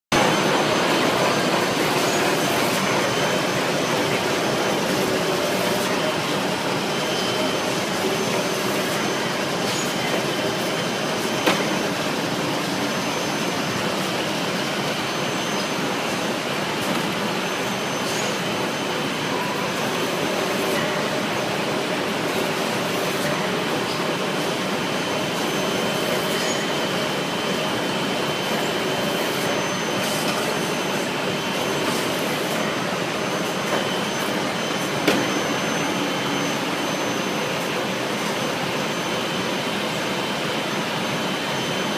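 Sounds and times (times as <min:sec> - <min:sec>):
band saw mechanical hiss and whine: 0:00.2 - 0:41.9.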